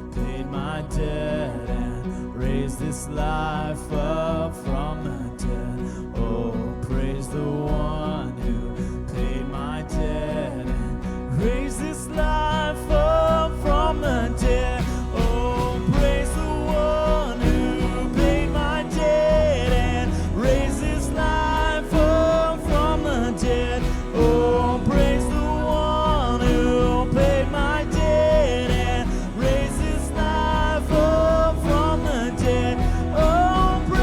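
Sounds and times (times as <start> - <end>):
bass guitar: 0.0 - 34.0
person singing: 0.0 - 34.0
steady drum beat: 0.0 - 34.0
worship band playing: 0.0 - 34.0.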